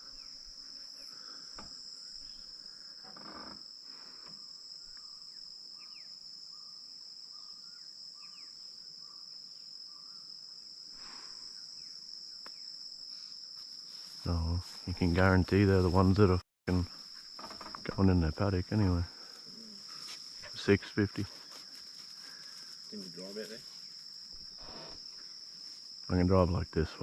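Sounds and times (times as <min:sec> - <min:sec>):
crickets and insects chorus: 0:00.0 - 0:27.0.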